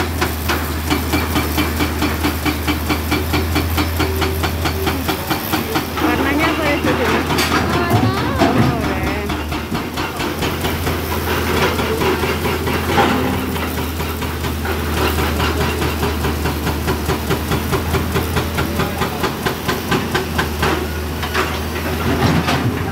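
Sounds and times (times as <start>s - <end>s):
excavator diesel engine: 0.0s - 22.9s.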